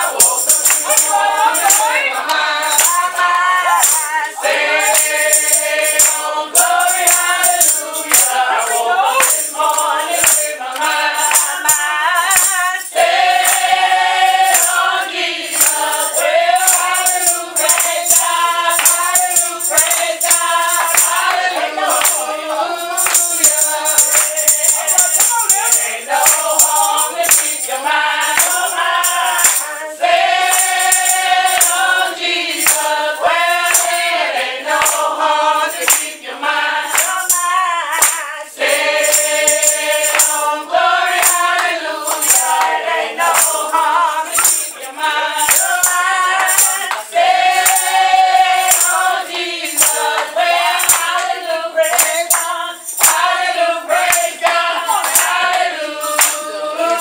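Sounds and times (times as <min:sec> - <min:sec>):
congregation singing: 0:00.0 - 0:57.0
steady percussive beat: 0:00.0 - 0:57.0.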